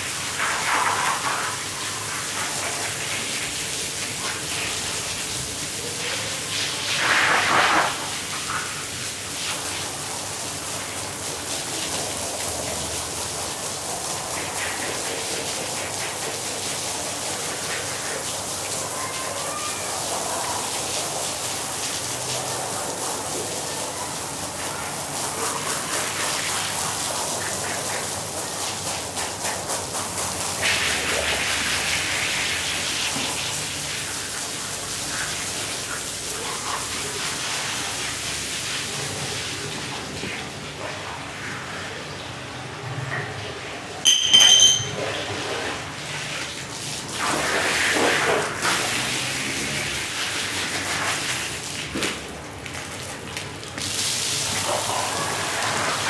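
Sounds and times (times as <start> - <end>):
water spraying onto a rug: 0.0 - 41.9, 45.0 - 56.0.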